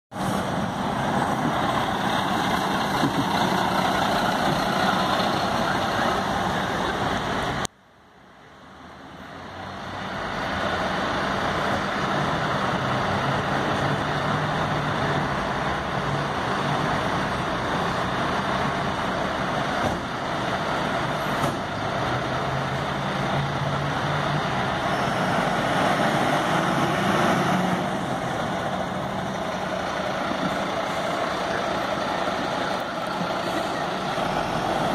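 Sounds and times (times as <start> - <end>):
diesel engine running: 0.1 - 7.7, 9.6 - 34.9.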